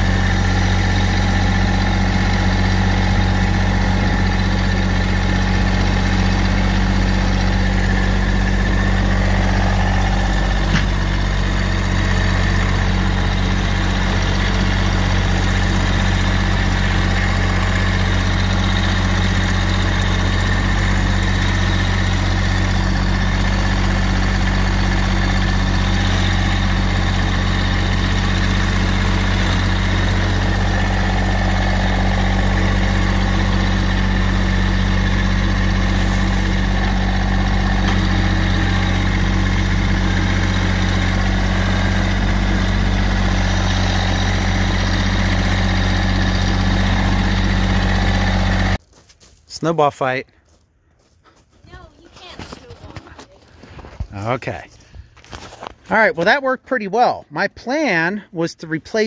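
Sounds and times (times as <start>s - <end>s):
tractor diesel engine running: 0.0s - 48.8s, 51.6s - 59.0s.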